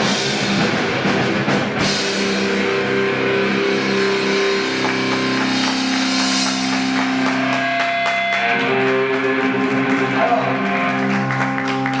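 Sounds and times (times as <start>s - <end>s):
fast drum beat: 0.0s - 11.3s
ringing guitar chords: 0.0s - 12.0s.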